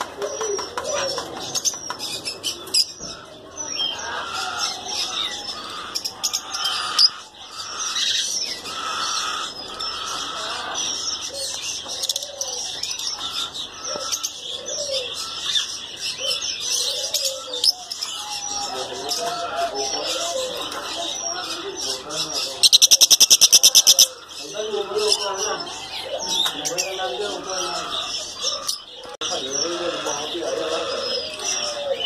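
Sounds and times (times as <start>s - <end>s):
budgerigars chattering: 0.0s - 32.0s.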